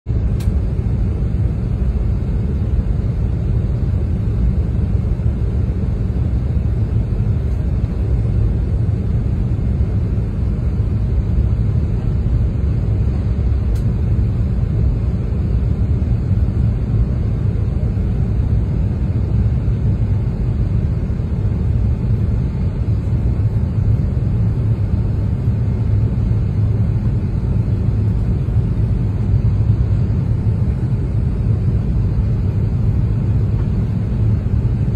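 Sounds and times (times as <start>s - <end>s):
airliner cabin rumble: 0.1s - 34.9s.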